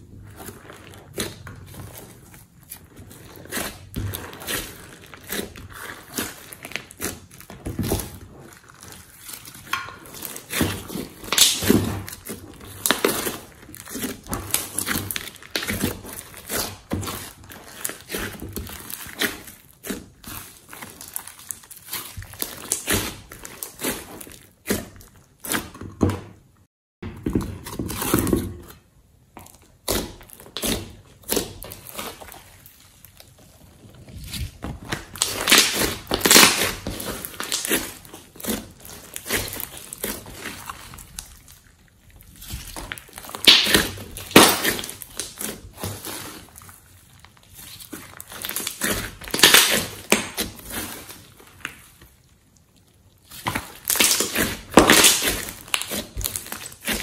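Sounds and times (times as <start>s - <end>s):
slime squelching: 0.0s - 26.6s, 27.3s - 57.0s.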